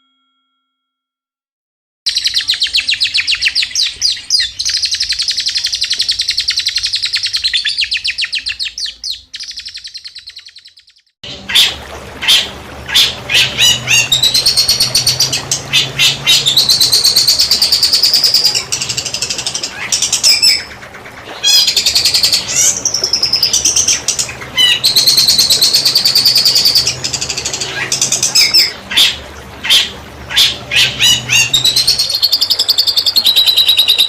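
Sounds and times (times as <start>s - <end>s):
sharp loud bird calls: 2.1s - 34.0s
songbird trilling: 2.1s - 34.0s.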